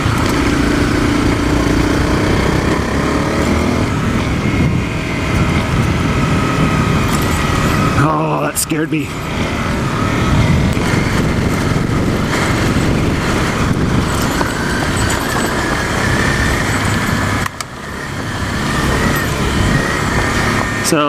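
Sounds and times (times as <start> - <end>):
faint engine whine: 0.0 - 21.0
motorcycle engine and road rumble: 0.0 - 21.0.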